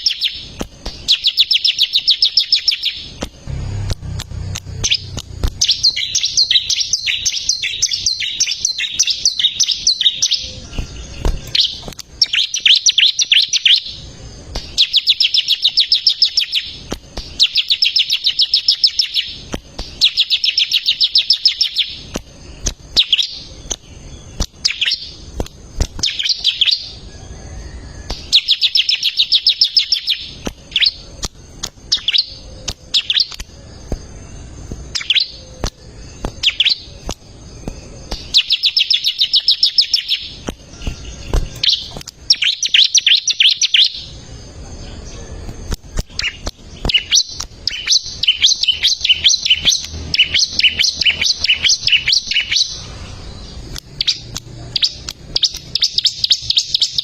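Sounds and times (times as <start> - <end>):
bird singing chirping trills: 0.0 - 57.0.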